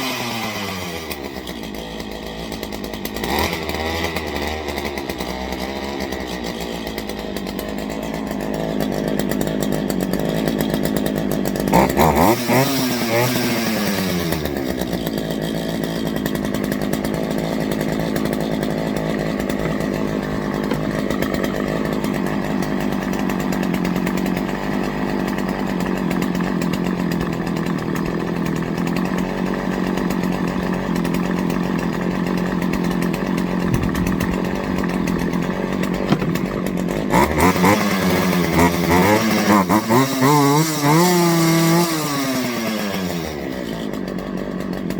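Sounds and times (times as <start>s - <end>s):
chainsaw engine revving and idling: 0.0s - 44.9s.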